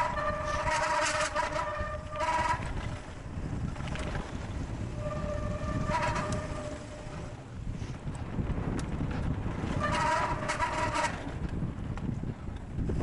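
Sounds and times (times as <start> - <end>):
high whine from bike: 0.0 - 11.8
wind buffeting microphone: 0.0 - 13.0.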